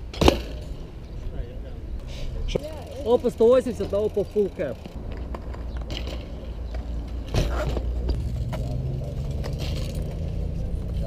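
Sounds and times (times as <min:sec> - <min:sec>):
wheels rolling on concrete: 0:02.1 - 0:11.0.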